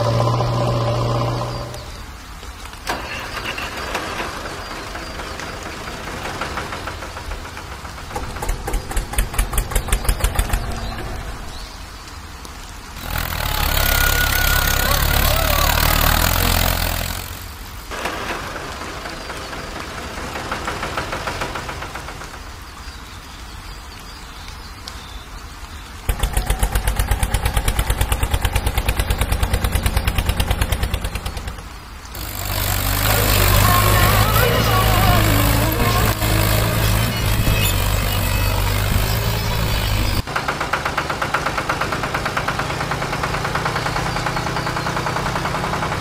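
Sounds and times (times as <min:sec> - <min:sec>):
diesel engine rumble with hiss: 0:00.0 - 0:23.1, 0:25.6 - 0:46.0.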